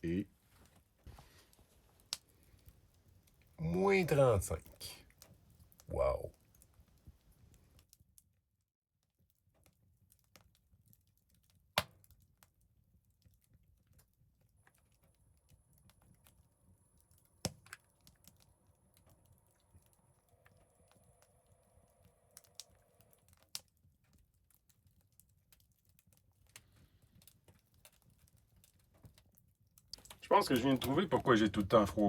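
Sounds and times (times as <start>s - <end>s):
faint clicks and snaps: 0.6s - 3.6s, 4.7s - 8.3s, 9.3s - 31.2s.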